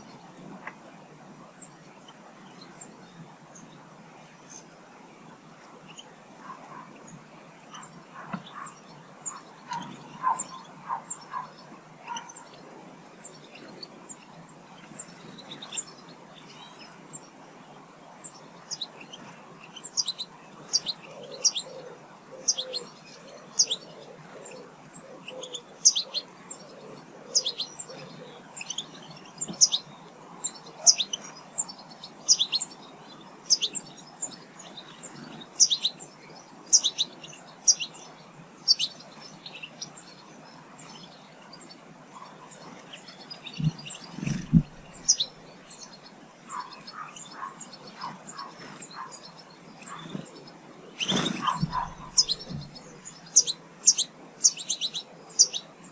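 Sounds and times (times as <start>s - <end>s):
small birds chirping: 1.4s - 55.9s.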